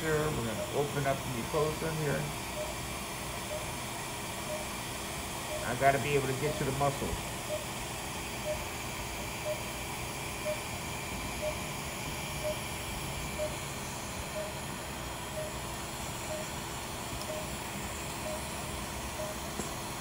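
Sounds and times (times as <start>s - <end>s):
patient monitor beeping: 0.0s - 19.6s
steady equipment hiss: 0.0s - 20.0s.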